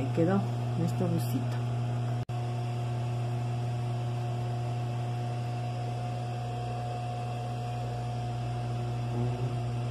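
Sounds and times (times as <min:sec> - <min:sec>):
low electrical hum: 0:00.0 - 0:09.9.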